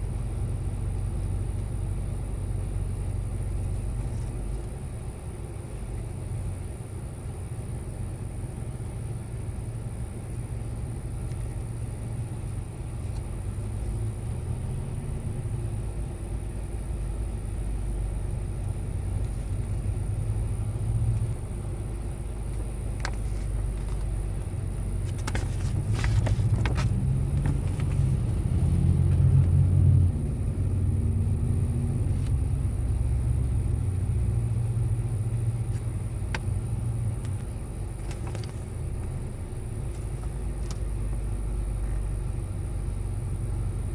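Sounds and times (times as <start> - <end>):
low car rumble: 0.0 - 43.9.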